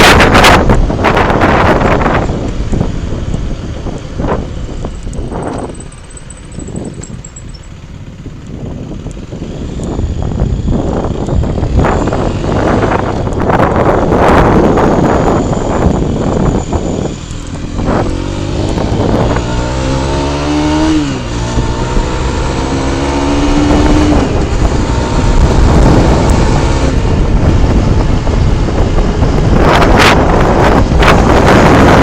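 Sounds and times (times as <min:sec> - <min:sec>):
motorcycle engine accelerating: 0:00.0 - 0:32.0
wind noise on microphone: 0:00.0 - 0:32.0.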